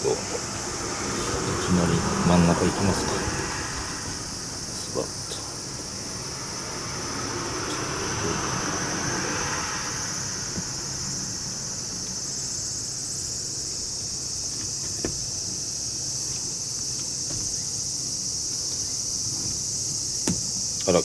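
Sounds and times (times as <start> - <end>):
insects shrilling: 0.0 - 21.0.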